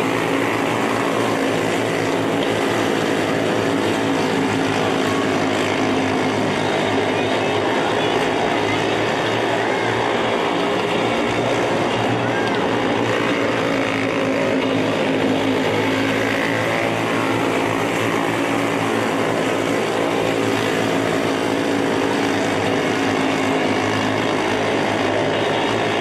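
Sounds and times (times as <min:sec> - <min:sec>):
small race car engines droning: 0:00.0 - 0:26.0.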